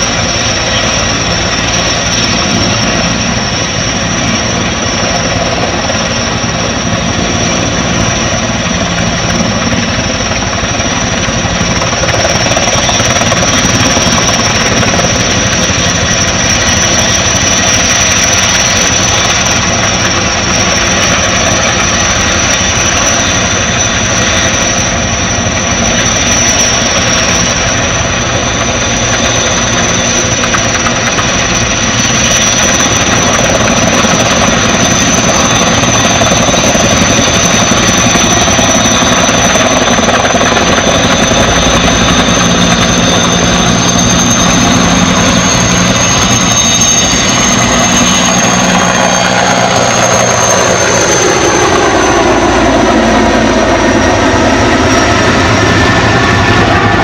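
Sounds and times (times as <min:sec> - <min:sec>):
helicopter rotor and engine noise: 0:00.0 - 0:57.0
helicopter turbine whine: 0:00.0 - 0:57.0.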